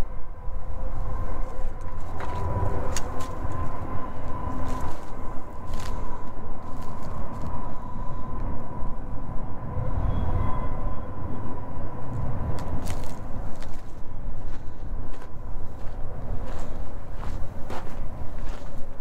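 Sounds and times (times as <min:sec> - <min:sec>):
freight train rumbling: 0:00.0 - 0:19.0
thin steady whine: 0:00.0 - 0:19.0.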